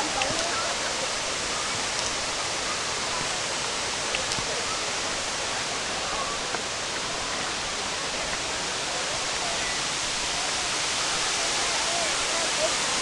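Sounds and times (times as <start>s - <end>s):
faint distant voices: 0.0s - 13.0s
waterfall rushing: 0.0s - 13.0s.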